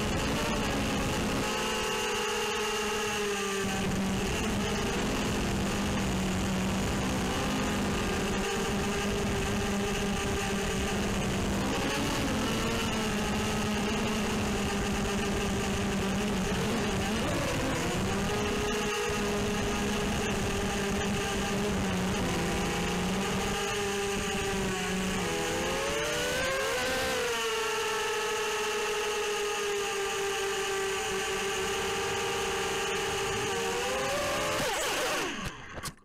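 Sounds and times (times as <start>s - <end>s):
quadcopter motors buzzing: 0.0s - 35.9s.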